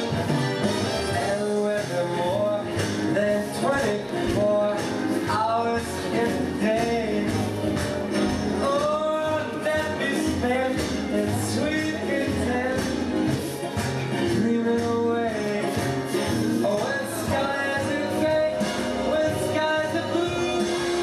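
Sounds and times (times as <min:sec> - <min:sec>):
song with singer and band: 0:00.0 - 0:21.0.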